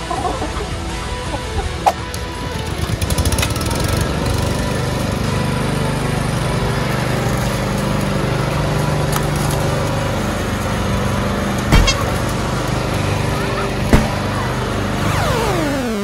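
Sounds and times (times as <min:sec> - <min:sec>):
push lawn mower running: 0:00.6 - 0:16.0.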